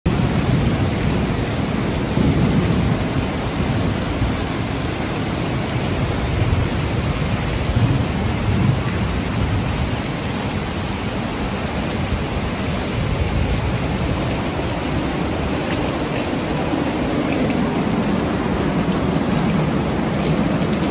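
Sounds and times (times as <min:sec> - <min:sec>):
heavy rain on pavement: 0:00.0 - 0:20.9.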